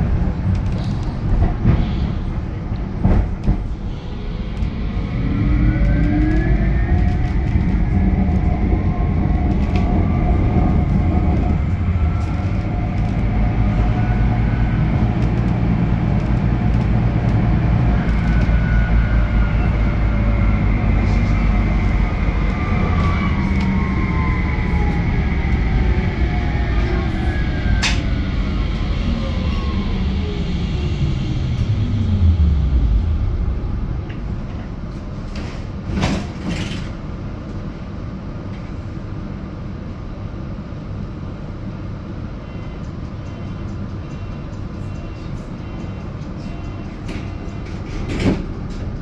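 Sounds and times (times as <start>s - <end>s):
stationary tram humming: 0.0s - 49.0s
tram electric drive whine: 0.0s - 49.0s.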